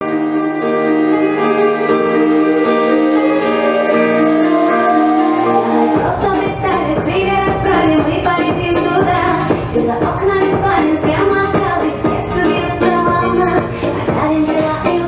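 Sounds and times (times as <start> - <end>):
sustained chords: 0.0 - 15.0
pop band with beat: 1.8 - 15.0.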